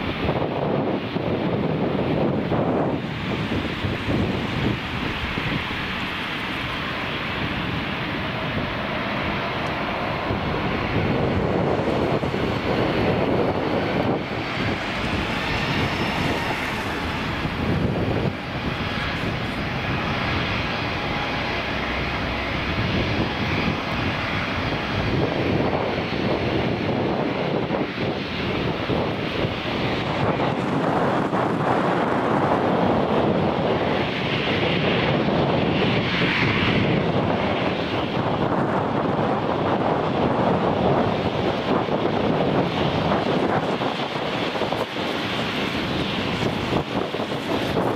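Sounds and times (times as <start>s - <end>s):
jet engines rushing: 0.0s - 47.9s
wind on microphone: 0.0s - 47.9s.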